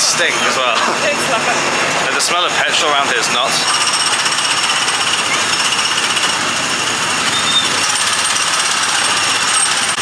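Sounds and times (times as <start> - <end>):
small petrol engines rattling: 0.0 - 10.0.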